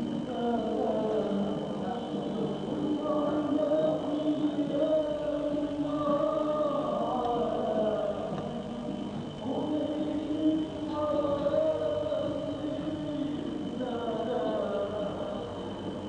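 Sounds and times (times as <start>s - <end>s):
choir-like chanting voices: 0.0s - 16.0s
faint high whine: 0.0s - 16.0s.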